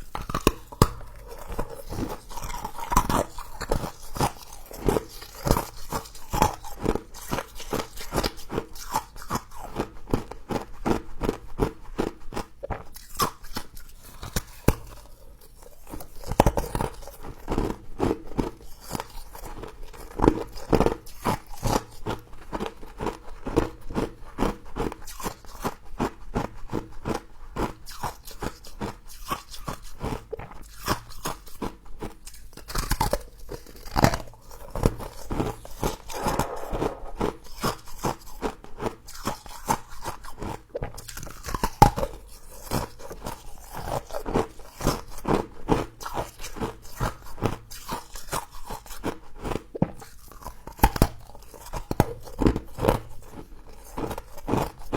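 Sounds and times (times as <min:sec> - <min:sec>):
crunching frost being chewed: 0:00.0 - 0:37.2, 0:39.0 - 0:54.9.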